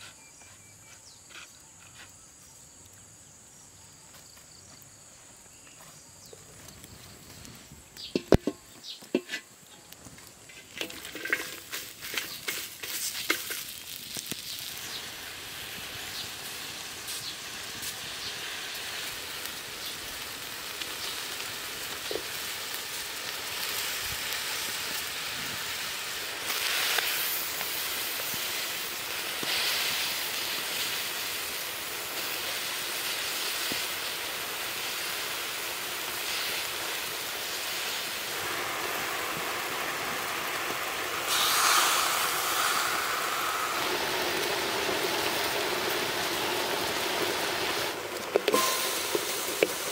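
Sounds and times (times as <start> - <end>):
food sizzling in a hot wok: 6.6 - 49.9.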